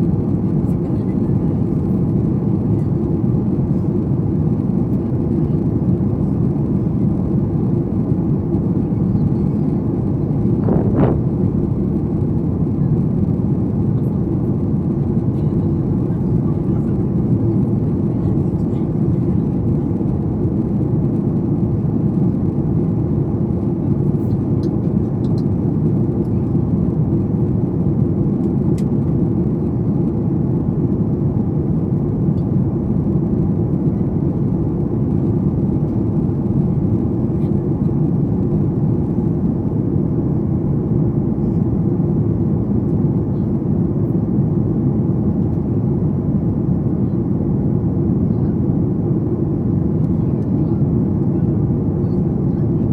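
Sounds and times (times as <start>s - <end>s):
airplane cabin rumble: 0.0s - 52.9s.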